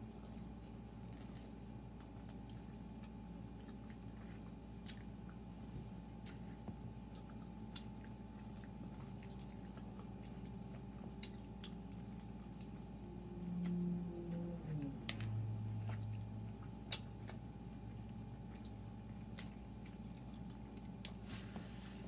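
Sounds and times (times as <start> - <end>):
faint electrical hum: 0.0 - 22.0
people chewing: 0.0 - 22.0.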